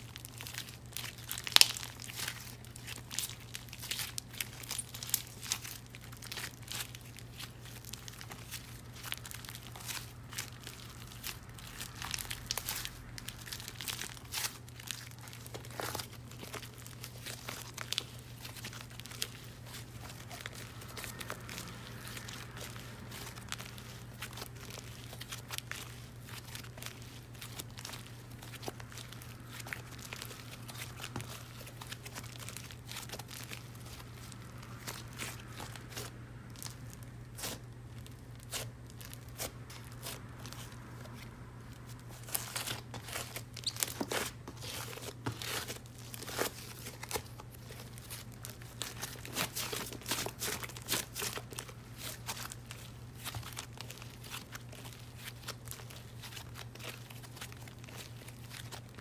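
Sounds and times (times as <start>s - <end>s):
dried clay crackling: 0.0s - 59.0s.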